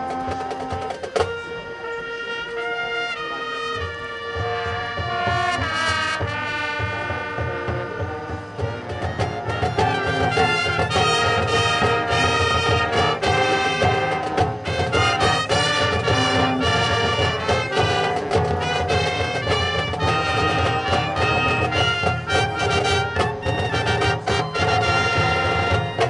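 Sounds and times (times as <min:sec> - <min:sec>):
trumpets and trombones melody: 0:00.0 - 0:26.0
drum hits: 0:03.8 - 0:26.0.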